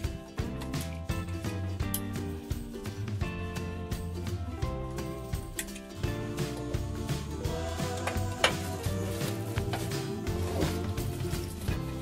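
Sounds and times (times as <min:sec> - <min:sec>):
music with chords and beat: 0:00.0 - 0:12.0.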